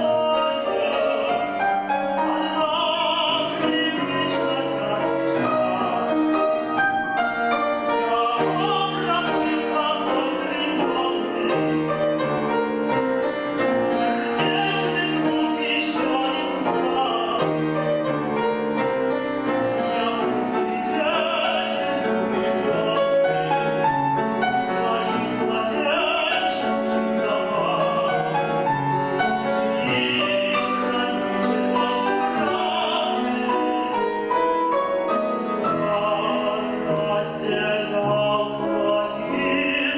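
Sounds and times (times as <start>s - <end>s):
man singing opera: 0.0s - 39.9s
piano accompaniment: 0.0s - 39.9s.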